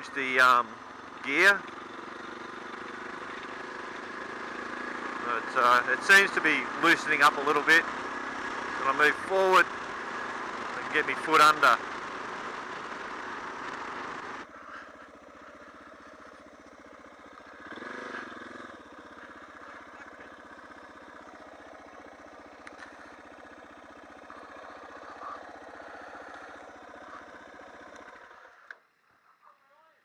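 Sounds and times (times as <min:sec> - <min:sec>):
motorcycle engine running at low revs: 0:00.0 - 0:29.4.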